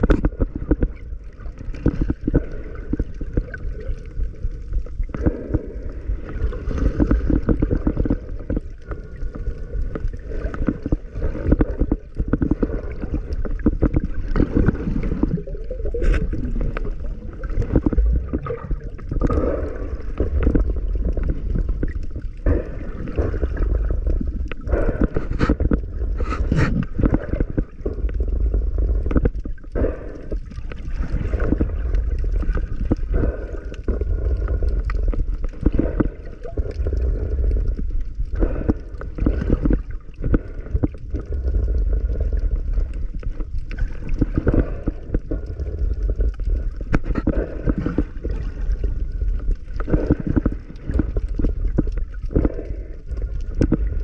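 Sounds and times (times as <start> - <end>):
muffled water sloshing underwater: 0.0 - 54.0
short clicks and crackles: 0.0 - 54.0.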